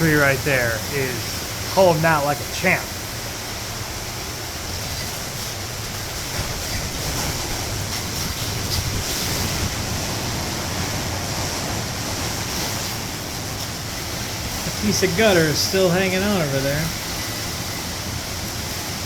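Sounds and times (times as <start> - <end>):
strong wind rushing: 0.0 - 19.0
wind buffeting microphone: 2.9 - 19.0.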